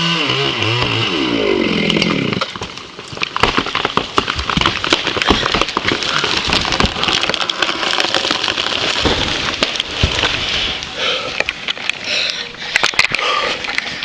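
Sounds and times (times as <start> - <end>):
wood cracking and branches snapping: 0.3 - 14.0.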